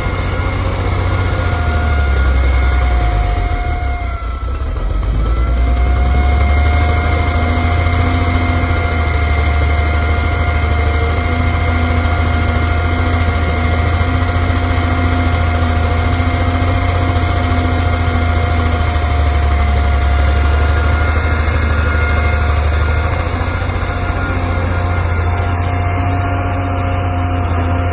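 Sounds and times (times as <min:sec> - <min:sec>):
excavator engine droning: 0:00.0 - 0:27.9
thin steady whine: 0:00.0 - 0:27.9.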